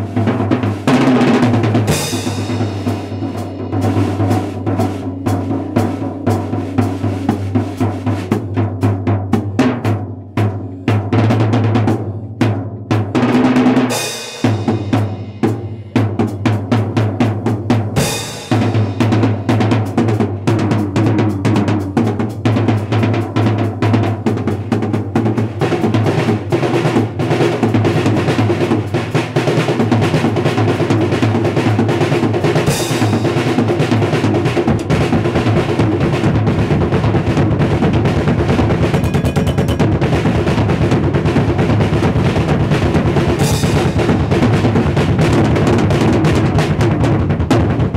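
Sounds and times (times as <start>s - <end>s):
drum kit solo: 0.0s - 47.9s.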